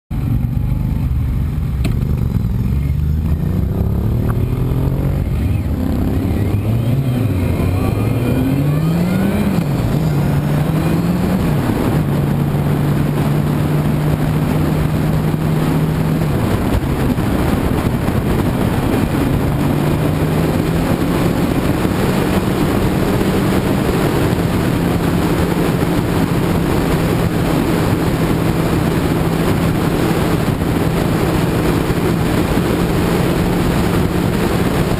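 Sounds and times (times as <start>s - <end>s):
motorcycle engine accelerating: 0.1s - 34.9s
wind rushing over microphone: 0.1s - 34.9s.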